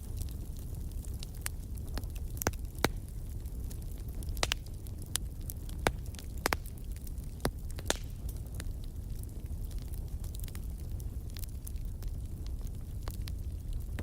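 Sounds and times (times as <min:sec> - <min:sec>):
fire crackling with pops: 0:00.0 - 0:14.0.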